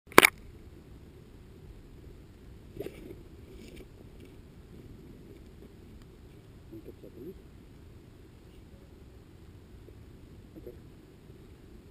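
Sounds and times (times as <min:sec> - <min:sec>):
low outdoor background rumble: 0:00.3 - 0:11.9.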